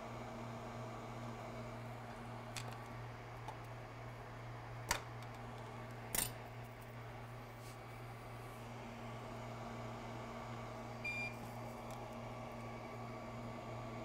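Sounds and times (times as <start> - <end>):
low hum of bench equipment: 0.0 - 14.0.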